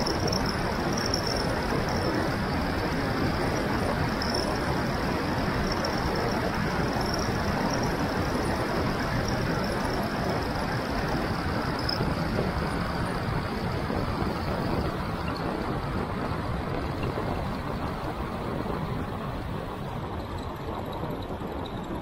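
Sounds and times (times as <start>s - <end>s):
tyres rolling on asphalt: 0.0s - 22.0s
wind rushing over microphone: 0.0s - 22.0s.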